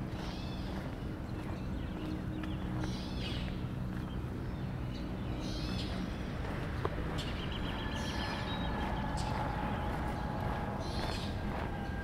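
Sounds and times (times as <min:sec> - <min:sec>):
bird trilling: 0:00.0 - 0:03.6, 0:04.6 - 0:12.0
footsteps on pavement: 0:00.0 - 0:12.0
low outdoor rumble: 0:00.0 - 0:12.0.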